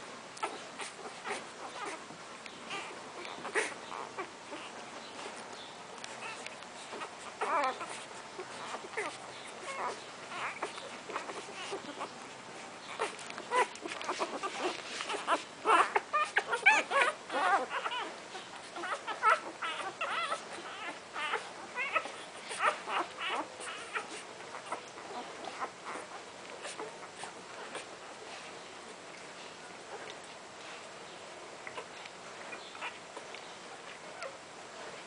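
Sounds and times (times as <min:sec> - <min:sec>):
puppies squeaking and whimpering: 0:00.4 - 0:35.0.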